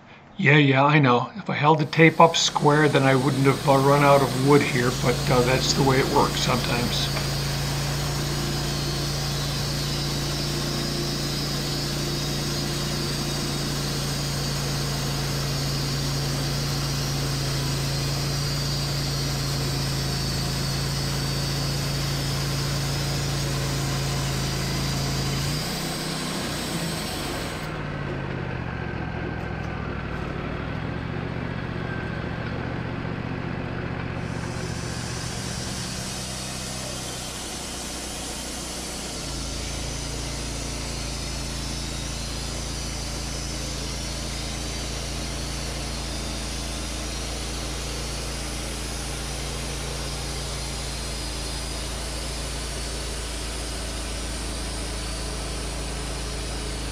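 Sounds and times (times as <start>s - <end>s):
bandsaw mill engine running: 1.5s - 56.9s.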